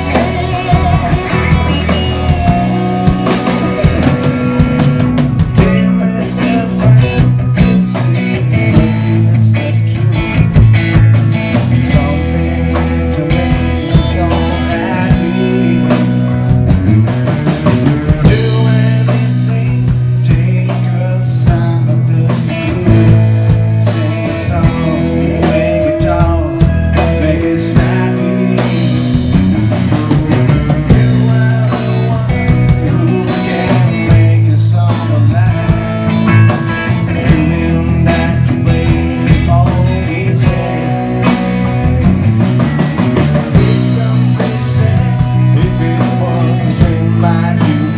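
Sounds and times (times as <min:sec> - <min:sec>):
live rock band playing: 0:00.0 - 0:47.9.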